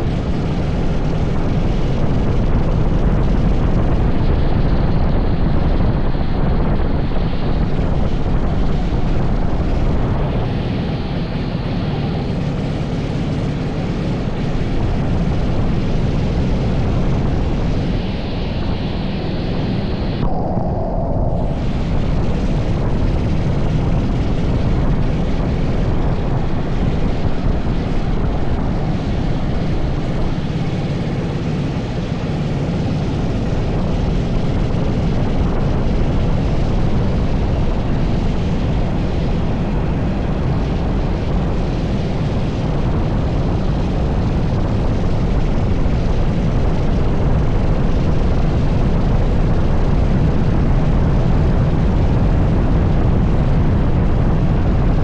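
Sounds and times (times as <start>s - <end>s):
kart engine running hard: 0.0s - 18.2s, 22.2s - 49.0s.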